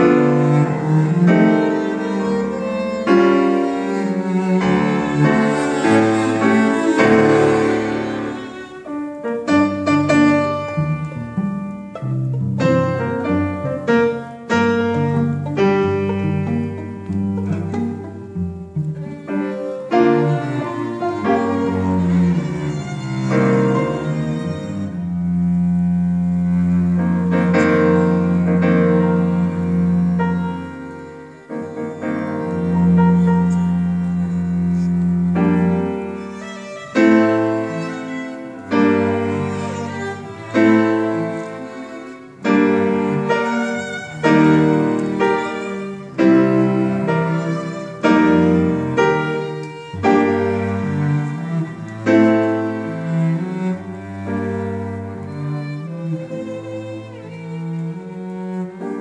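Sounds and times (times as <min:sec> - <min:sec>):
bowed strings: 0:00.0 - 0:59.0
piano chords: 0:00.0 - 0:59.0.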